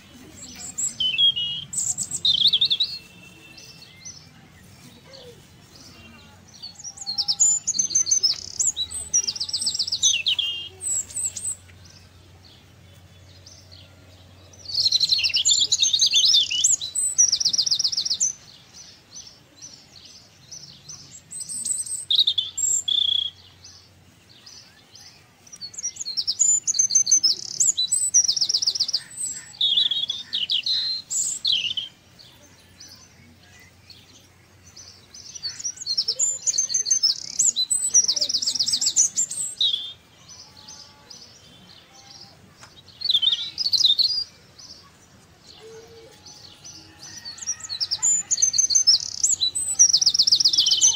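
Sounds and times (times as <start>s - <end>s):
birds trilling song: 0.0s - 50.9s.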